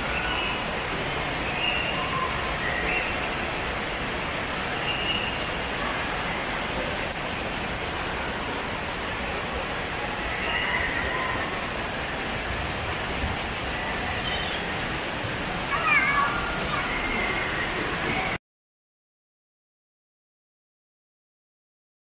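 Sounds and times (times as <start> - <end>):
water rushing down slide: 0.0 - 18.4.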